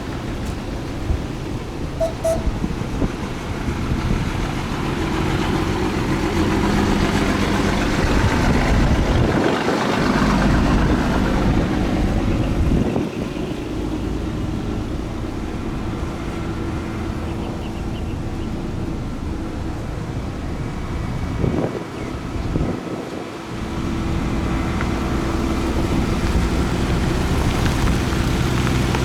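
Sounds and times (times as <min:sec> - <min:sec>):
heavy machinery diesel engine: 0:00.0 - 0:29.0.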